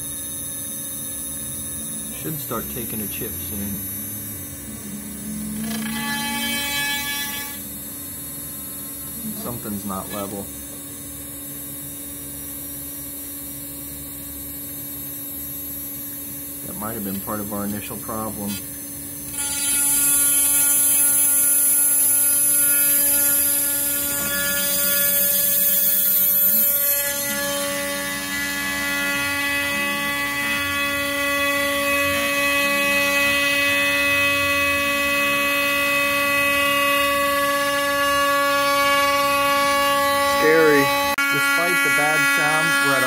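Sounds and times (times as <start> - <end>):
router spindle whine: 0.0 - 43.0.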